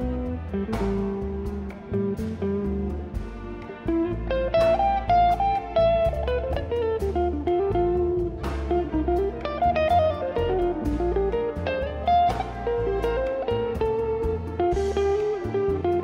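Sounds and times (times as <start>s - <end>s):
double bass: 0.0s - 16.0s
drums: 0.0s - 16.0s
electric guitar melody: 0.0s - 16.0s.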